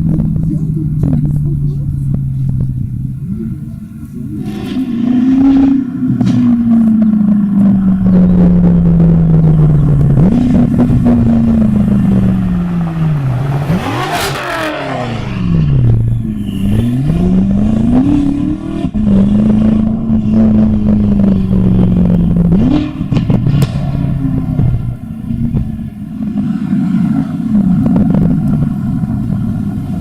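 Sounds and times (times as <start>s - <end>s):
car engines revving past: 0.0s - 30.0s
sharp exhaust cracks: 0.0s - 30.0s.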